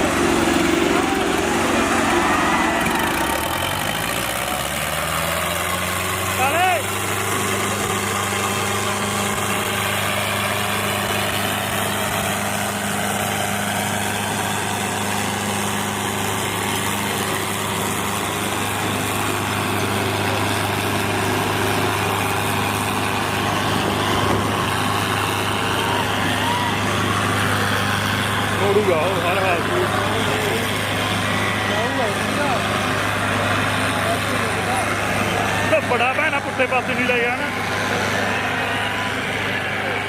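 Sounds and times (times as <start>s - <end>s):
diesel tractor engine idling: 0.0s - 40.0s.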